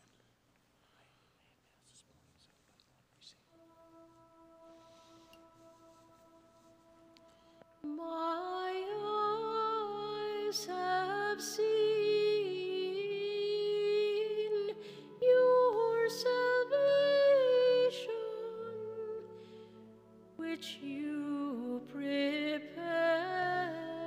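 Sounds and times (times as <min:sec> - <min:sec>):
person singing a hymn: 0:03.5 - 0:24.0
sustained accompanying chords: 0:03.5 - 0:24.0.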